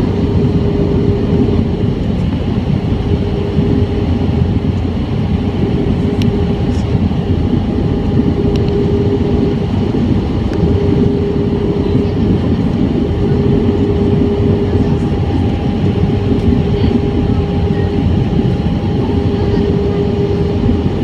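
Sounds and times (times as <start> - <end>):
jet engines and airflow rushing: 0.0 - 21.0
steady humming tone: 0.0 - 21.0.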